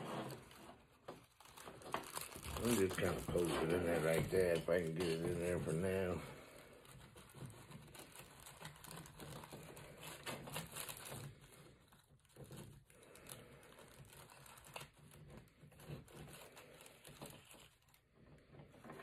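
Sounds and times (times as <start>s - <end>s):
plastic bag crinkling: 0.0s - 19.0s
plastic toy crackles: 0.0s - 19.0s.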